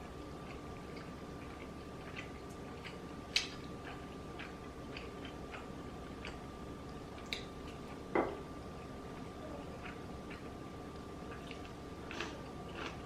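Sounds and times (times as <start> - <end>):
person chewing: 0.0 - 8.1, 8.7 - 13.0.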